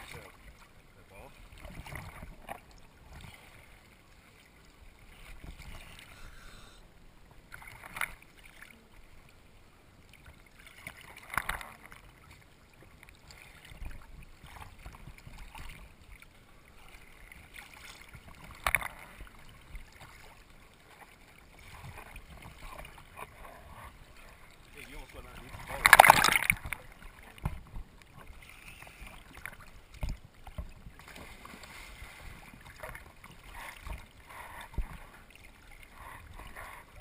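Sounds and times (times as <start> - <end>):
sea water sloshing and lapping: 0.0 - 37.0
water splashes: 0.0 - 37.0.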